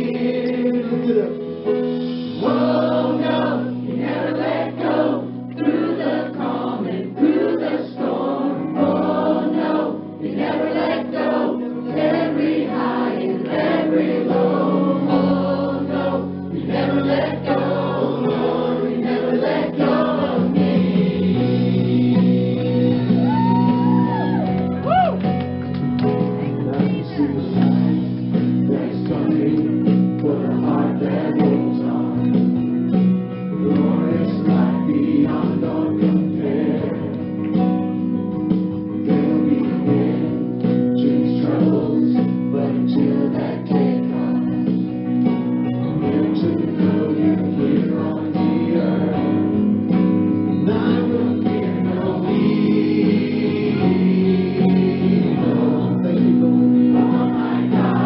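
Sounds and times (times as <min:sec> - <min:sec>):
choir singing over guitar: 0:00.0 - 0:24.4, 0:26.5 - 0:58.0.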